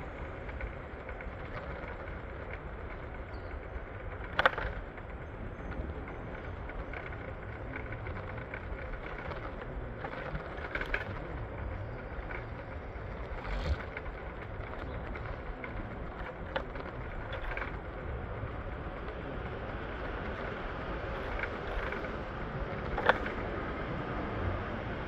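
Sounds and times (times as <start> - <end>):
moving ride vehicle rumble: 0.0 - 25.0.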